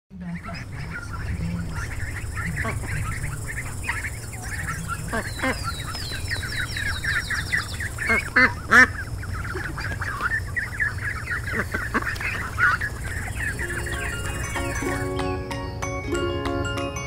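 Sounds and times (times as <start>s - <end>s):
ducklings peeping: 0.1s - 17.0s
duck quacks: 0.2s - 15.0s.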